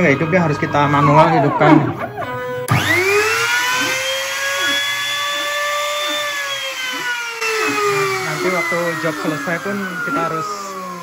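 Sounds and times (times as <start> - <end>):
router motor whining: 0.0 - 11.0.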